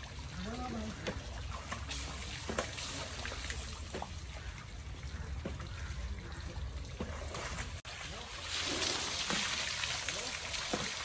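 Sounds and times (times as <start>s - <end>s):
stream water trickling: 0.0s - 11.0s
water splashes: 0.0s - 11.0s.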